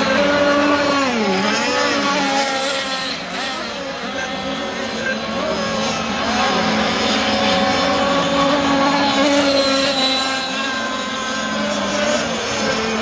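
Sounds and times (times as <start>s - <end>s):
model boat engines buzzing: 0.0s - 13.0s.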